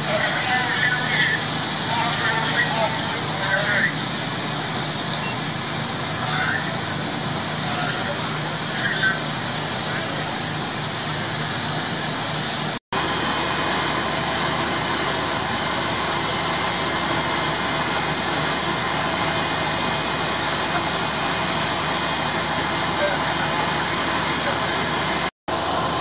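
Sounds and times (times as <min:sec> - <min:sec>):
fire truck engines idling: 0:00.0 - 0:26.0.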